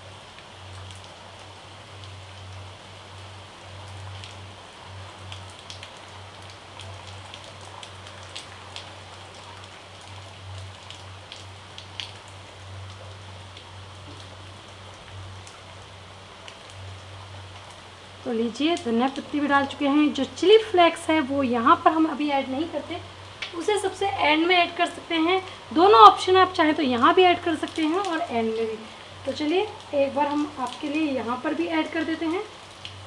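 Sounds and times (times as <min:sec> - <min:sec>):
light ticks of leaves sprinkled: 0:00.1 - 0:20.9, 0:21.6 - 0:33.0.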